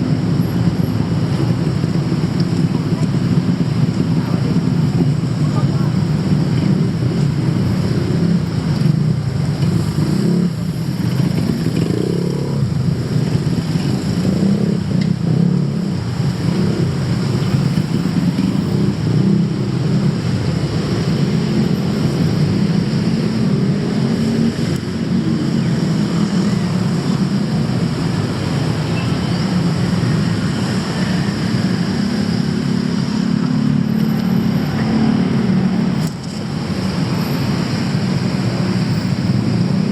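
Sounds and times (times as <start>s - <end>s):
vehicle engines humming: 0.0s - 39.9s.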